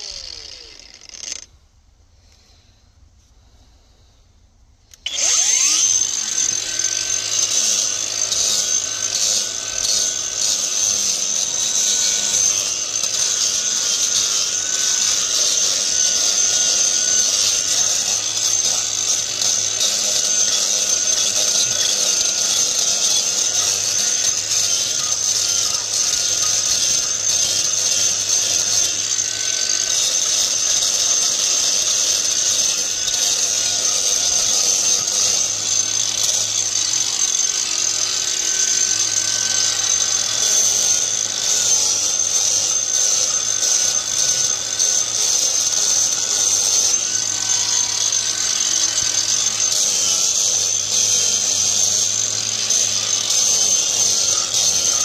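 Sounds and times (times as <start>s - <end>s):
angle grinder grinding concrete: 0.0s - 1.5s, 4.9s - 55.0s.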